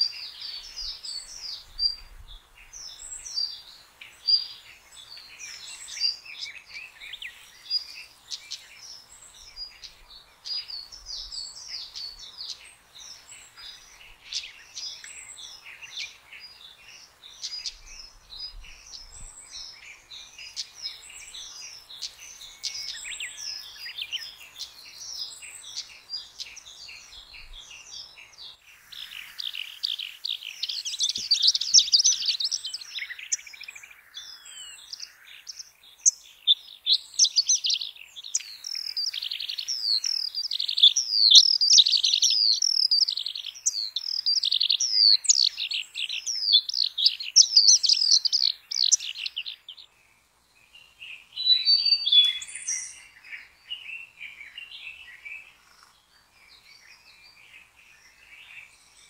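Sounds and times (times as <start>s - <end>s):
high bird chirps and calls: 0.0s - 50.0s, 50.8s - 59.0s.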